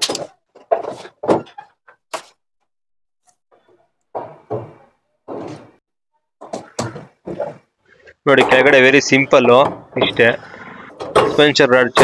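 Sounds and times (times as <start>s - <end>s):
clunks and knocks of parts: 0.0s - 2.3s, 3.6s - 5.8s, 6.4s - 12.0s.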